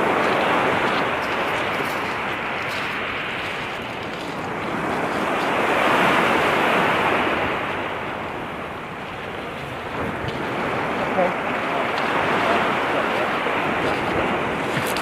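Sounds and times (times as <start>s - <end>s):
sea waves washing in: 0.0s - 15.0s
wind on microphone: 0.0s - 15.0s.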